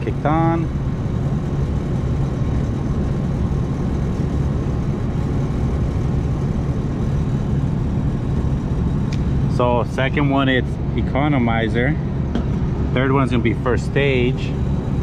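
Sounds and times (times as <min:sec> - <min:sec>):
air conditioner fan rumbling: 0:00.0 - 0:15.0.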